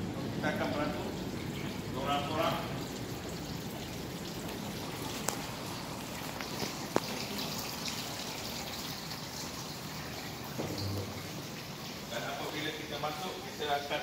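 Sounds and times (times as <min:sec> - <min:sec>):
steady hissing background noise: 0:00.0 - 0:14.0.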